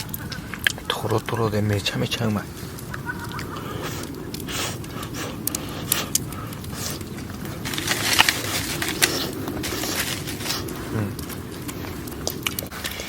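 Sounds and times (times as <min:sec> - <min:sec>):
fire popping and snapping: 0:00.0 - 0:13.0
wood fire crackling: 0:00.0 - 0:13.0.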